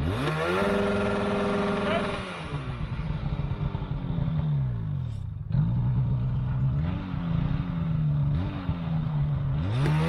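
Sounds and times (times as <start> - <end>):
snowmobile engine revving: 0.0 - 4.8, 5.5 - 10.0.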